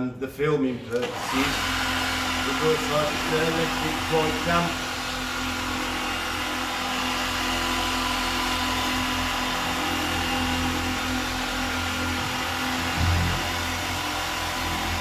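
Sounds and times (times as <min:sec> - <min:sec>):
machine polisher motor whine: 0:00.8 - 0:15.0.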